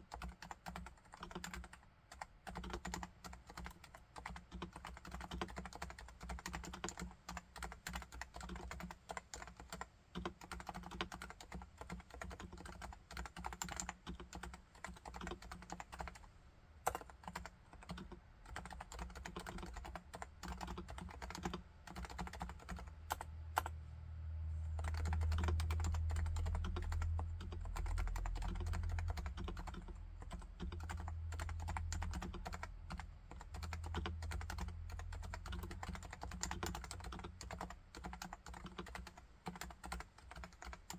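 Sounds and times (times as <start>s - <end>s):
muted keyboard typing: 0.0s - 23.8s, 24.8s - 40.9s.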